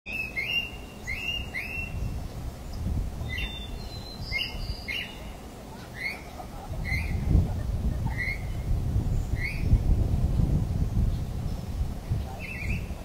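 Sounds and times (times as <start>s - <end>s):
birds chirping: 0.1s - 13.0s
steady low rumble: 0.8s - 13.0s.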